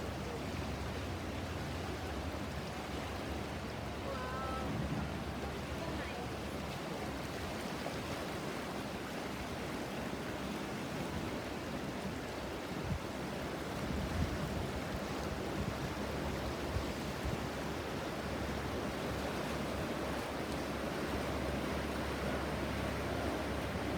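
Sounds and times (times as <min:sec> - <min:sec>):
river water rushing: 0:00.0 - 0:23.9.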